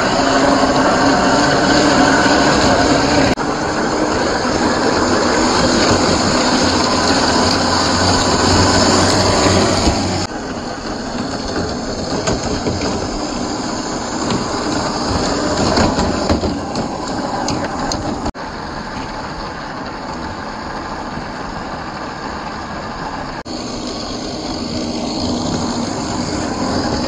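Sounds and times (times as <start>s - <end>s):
rc truck motor running: 0.0s - 27.0s
tyres churning muddy water: 0.0s - 27.0s.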